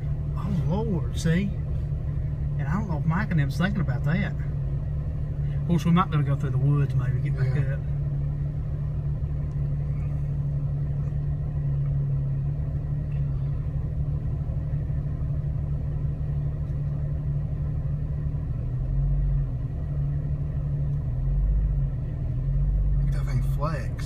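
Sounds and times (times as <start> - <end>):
vehicle engine idling low: 0.0 - 24.0.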